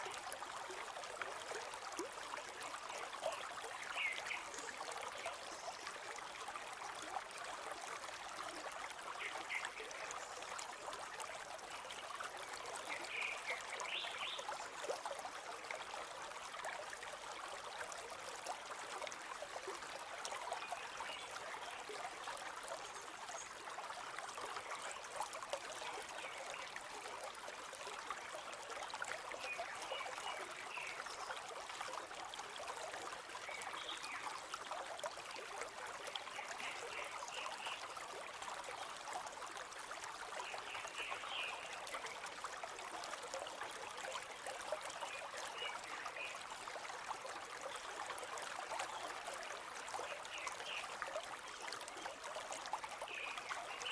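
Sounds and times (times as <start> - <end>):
river flowing: 0.0 - 53.9.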